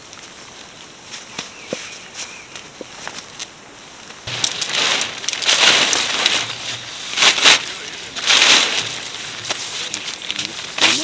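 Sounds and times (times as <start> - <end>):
tarp crinkling and rustling: 0.0 - 11.0.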